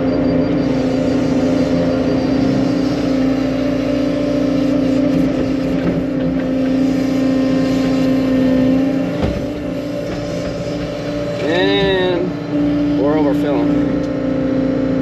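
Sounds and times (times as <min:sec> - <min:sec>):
skid steer loader engine running: 0:00.0 - 0:15.0.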